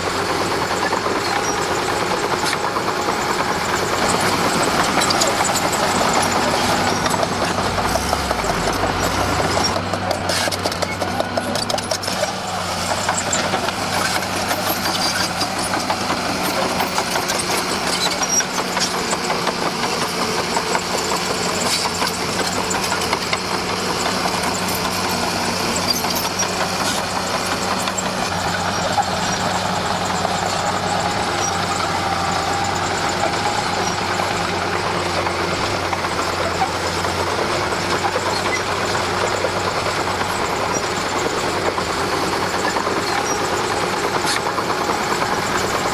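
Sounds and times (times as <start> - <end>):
bulldozer diesel engine running: 0.0 - 45.9
busy rattle: 0.1 - 45.9.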